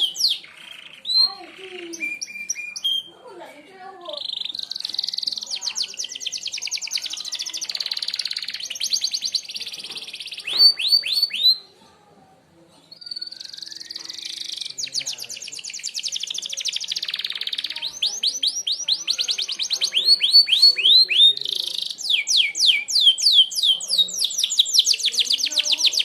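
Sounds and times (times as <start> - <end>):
canary singing rattling trills: 0.0 - 11.8, 12.8 - 26.0.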